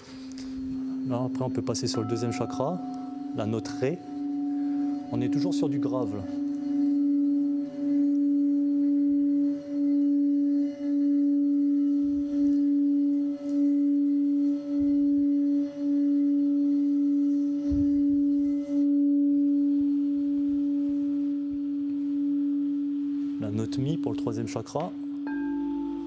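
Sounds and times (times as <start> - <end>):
crystal singing bowl note: 0.0 - 26.0.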